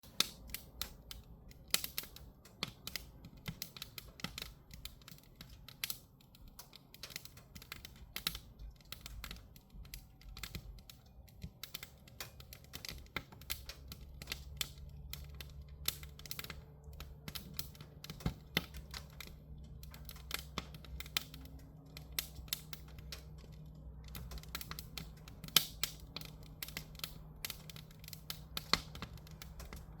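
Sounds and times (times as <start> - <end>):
firewood crackling and popping: 0.0 - 30.0
low steady hum: 0.0 - 30.0.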